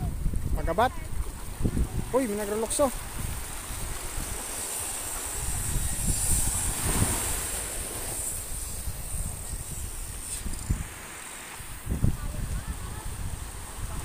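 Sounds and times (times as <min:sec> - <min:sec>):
small waves washing on sand: 0:00.0 - 0:14.0
wind rumbling on microphone: 0:00.0 - 0:14.0.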